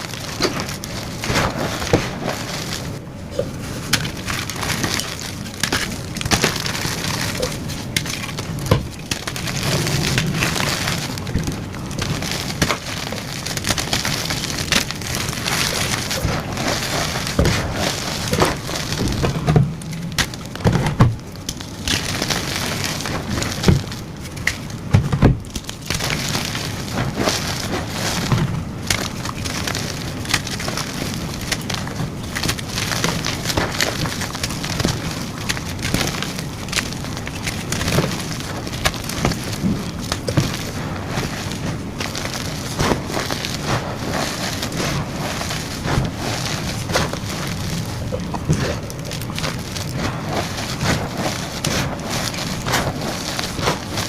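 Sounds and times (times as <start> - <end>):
chalk crunching and crackling: 0.0 - 54.0.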